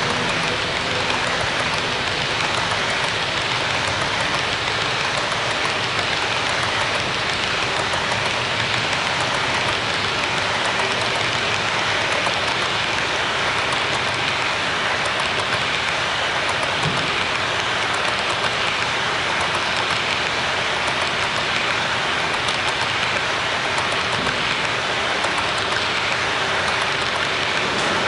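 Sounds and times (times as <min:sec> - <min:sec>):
model train cars rolling: 0:00.0 - 0:28.0.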